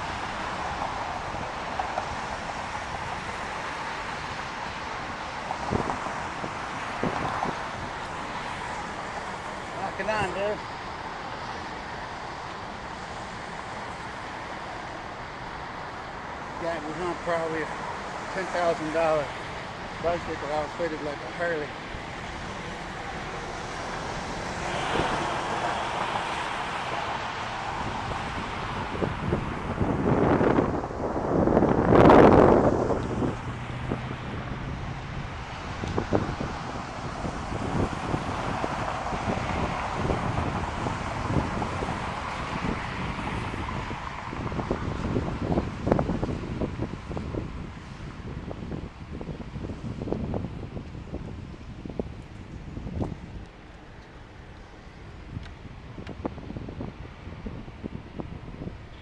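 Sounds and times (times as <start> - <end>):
traffic noise: 0.0 - 59.0
wind rushing over microphone: 0.0 - 59.0.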